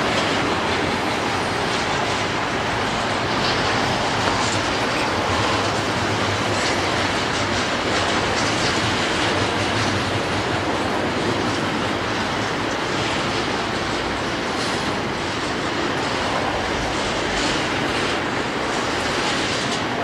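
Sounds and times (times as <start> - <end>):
freight train cars rolling past: 0.0 - 20.0.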